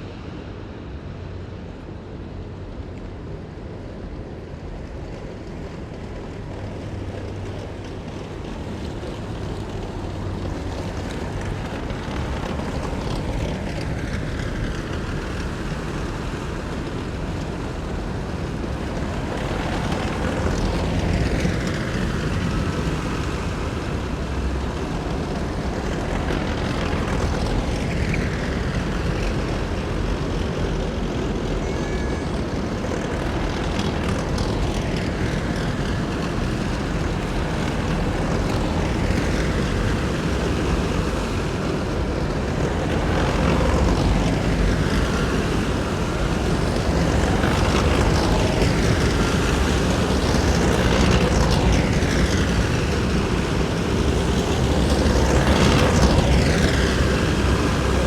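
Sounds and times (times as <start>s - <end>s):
heavy vehicles engine rumble: 0.0s - 58.0s.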